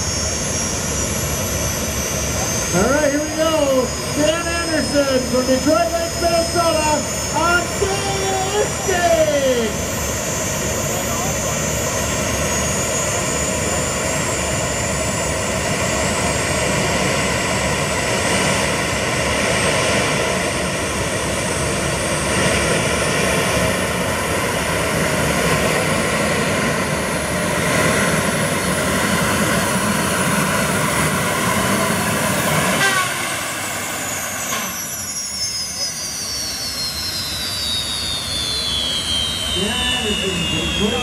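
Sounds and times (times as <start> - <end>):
high whine falling in pitch: 0.0 - 41.0
tractor engine at full throttle: 0.0 - 41.0.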